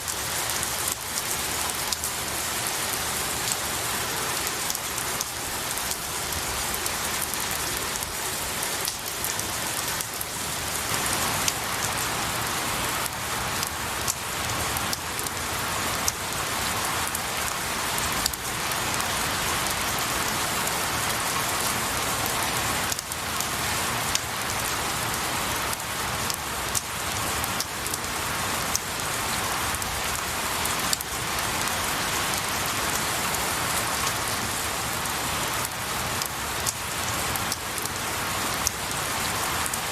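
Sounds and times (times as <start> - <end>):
rain hissing on trees: 0.0 - 39.9.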